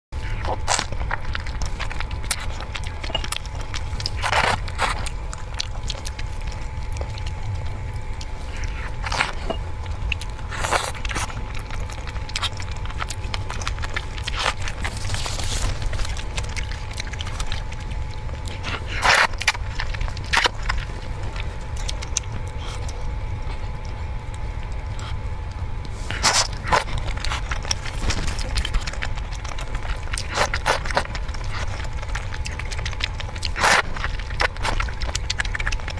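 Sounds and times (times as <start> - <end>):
faint whine: 0.2 - 35.9
low rumble: 0.2 - 35.9
person eating crunchy bites: 0.2 - 35.9.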